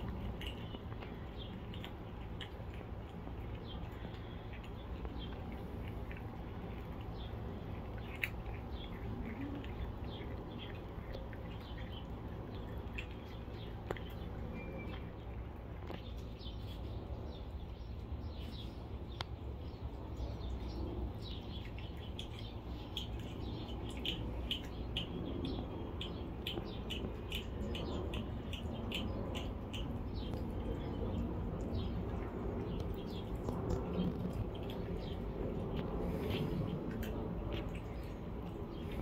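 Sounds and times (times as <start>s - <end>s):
cats chewing with wet clicks: 0.0s - 39.0s
small birds chirping: 0.0s - 39.0s
steady low hum: 0.0s - 39.0s.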